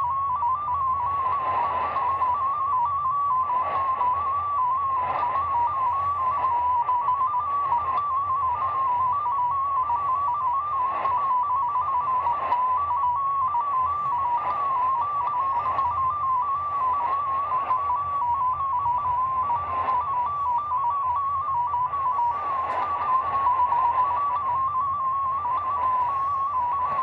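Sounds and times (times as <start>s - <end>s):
digital radio tone hopping pitches: 0.0s - 27.0s
radio band hiss: 0.0s - 27.0s
static crackles: 0.0s - 27.0s.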